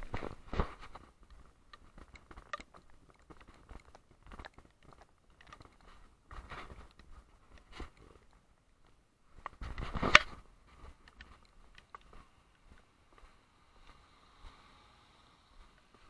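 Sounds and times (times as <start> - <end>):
low rumble on grooved paving: 0.0 - 16.0.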